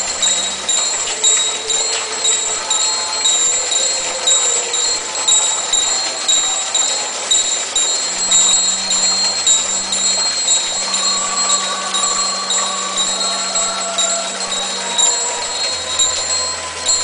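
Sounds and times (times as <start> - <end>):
church bells ringing: 0.0 - 17.0
motors humming: 0.0 - 17.0.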